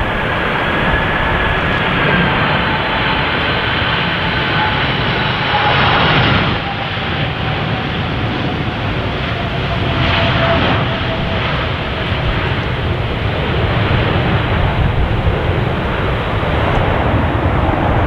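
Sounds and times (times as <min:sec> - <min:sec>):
airliner engines roaring: 0:00.0 - 0:18.0.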